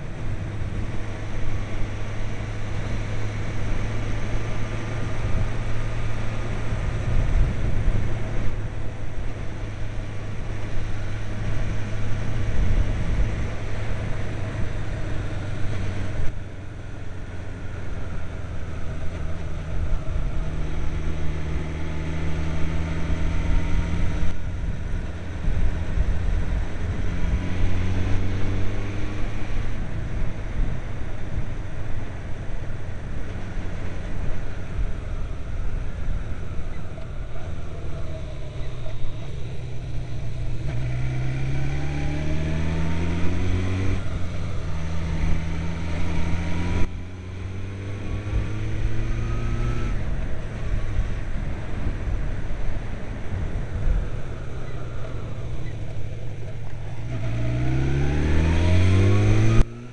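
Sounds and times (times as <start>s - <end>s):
wind rushing over microphone: 0.0s - 16.4s, 17.8s - 59.9s
motorcycle engine running: 0.0s - 59.9s.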